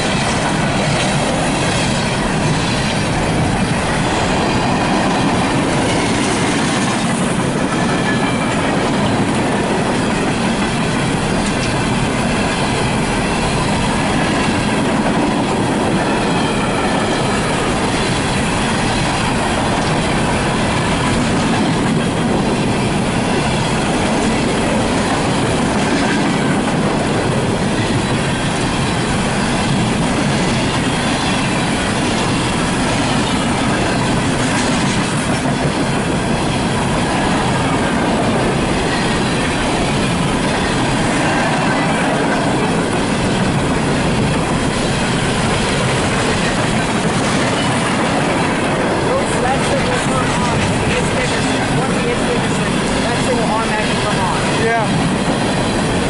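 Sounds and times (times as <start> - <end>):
steel train wheels on rail: 0.0 - 56.0.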